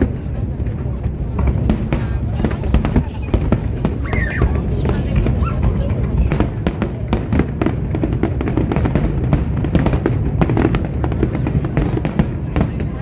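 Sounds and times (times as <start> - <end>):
firework bursts and crackles: 0.0 - 13.0.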